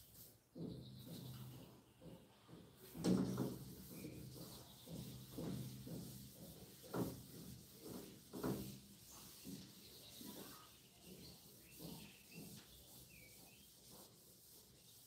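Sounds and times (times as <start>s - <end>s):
eraser wiping whiteboard: 2.6s - 15.0s.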